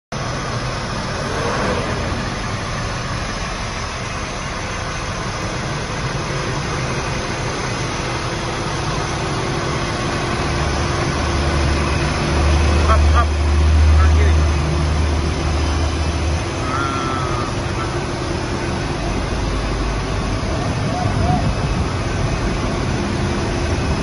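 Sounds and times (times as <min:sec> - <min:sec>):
diesel engine idling: 0:00.1 - 0:24.0.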